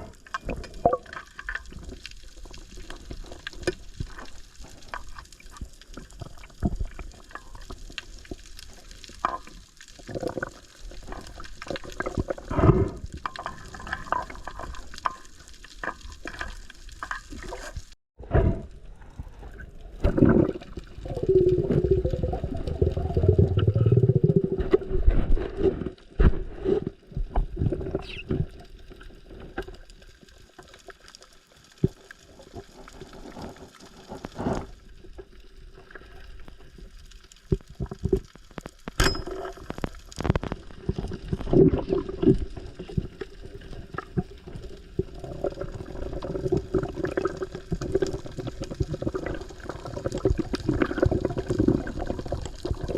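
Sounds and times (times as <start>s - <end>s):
water sloshing and gurgling: 0.0s - 52.9s.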